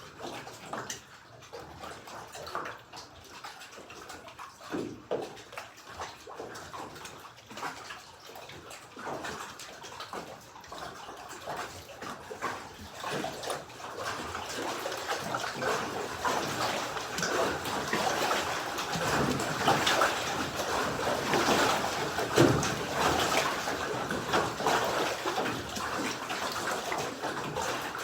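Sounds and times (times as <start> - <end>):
water lapping and sloshing: 0.0 - 28.0.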